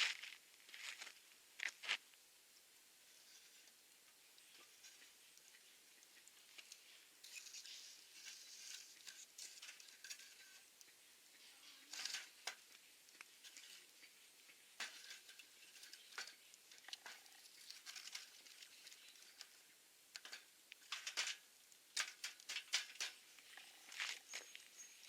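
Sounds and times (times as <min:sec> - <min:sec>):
campfire crackling and popping: 0:01.4 - 0:25.0.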